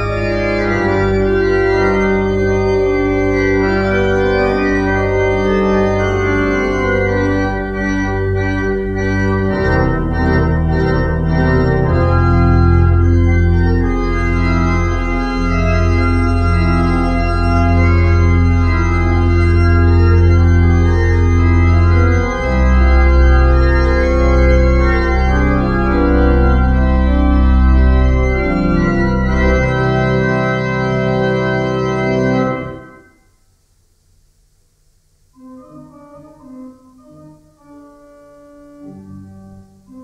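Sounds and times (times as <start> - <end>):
church organ chords: 0.0 - 33.3, 35.4 - 40.0.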